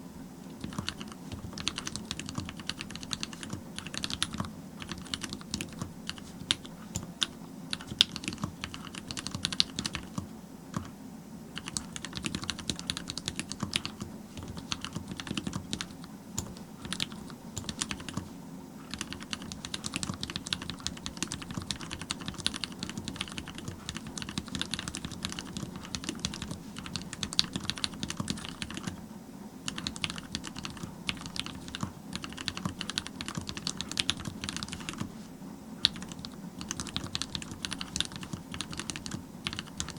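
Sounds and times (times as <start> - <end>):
mechanical keyboard typing: 0.6 - 11.0, 11.6 - 18.3, 18.9 - 29.0, 29.7 - 35.1, 35.8 - 39.9.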